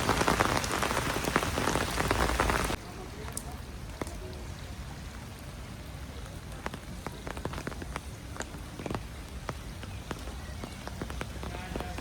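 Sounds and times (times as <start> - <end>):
heavy rain hissing: 0.0 - 12.0
raindrops pattering on hard surfaces: 0.0 - 12.0.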